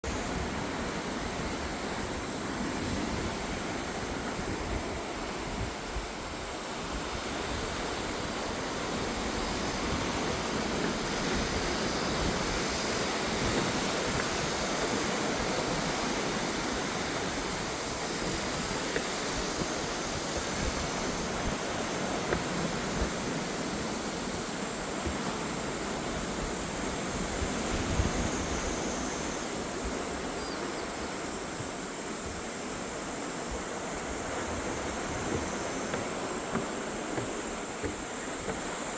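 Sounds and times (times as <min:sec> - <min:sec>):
sea surf washing on shore: 0:00.0 - 0:38.9
wind gusting across microphone: 0:00.0 - 0:38.9.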